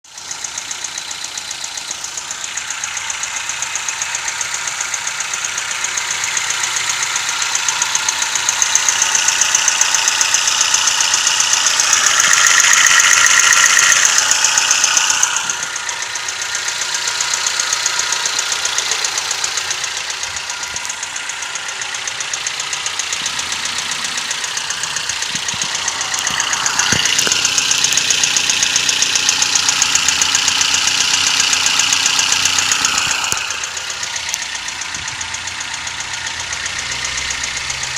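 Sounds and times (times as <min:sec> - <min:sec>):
car engine running: 0:00.0 - 0:37.9
fast metallic engine ticking: 0:00.0 - 0:37.9.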